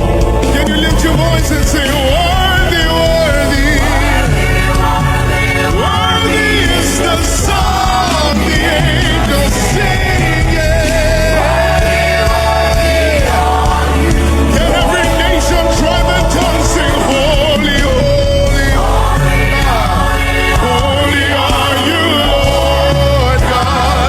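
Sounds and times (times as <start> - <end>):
gospel band accompaniment: 0.0 - 24.0.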